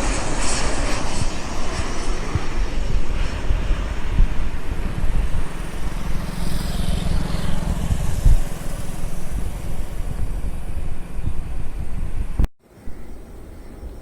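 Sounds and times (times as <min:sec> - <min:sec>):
gusty low buffeting: 0:00.0 - 0:14.0
jet engines rumbling: 0:00.0 - 0:14.0.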